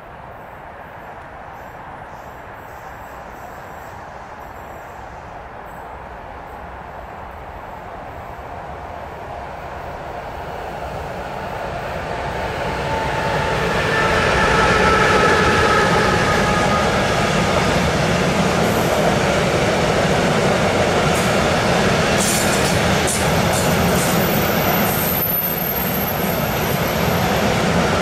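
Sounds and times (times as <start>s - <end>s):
freight train wheels rumbling: 1.1s - 28.0s.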